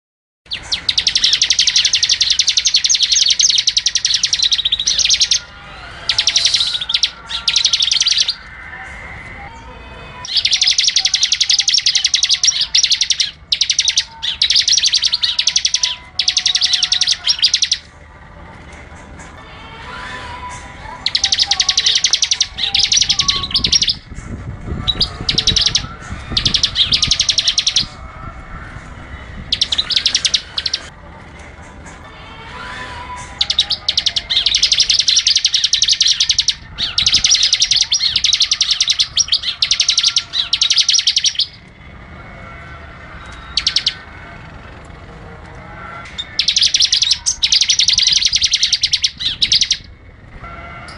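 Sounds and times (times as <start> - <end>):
bird trilling song: 0.5 - 17.9, 19.2 - 28.2, 29.1 - 30.9, 32.6 - 41.8, 42.5 - 44.9, 45.8 - 50.9.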